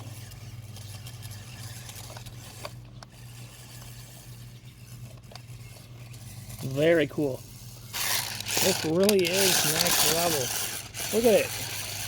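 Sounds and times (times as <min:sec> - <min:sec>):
toy car electric motors whirring: 0:00.0 - 0:12.0.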